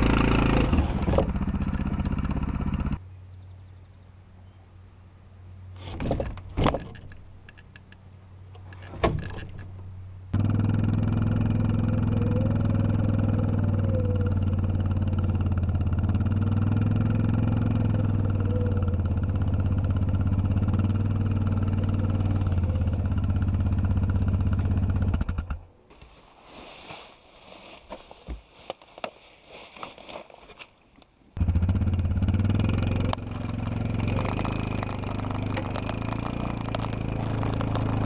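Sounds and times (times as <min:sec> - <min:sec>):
vehicle engine humming: 0:00.0 - 0:25.8, 0:31.4 - 0:38.0.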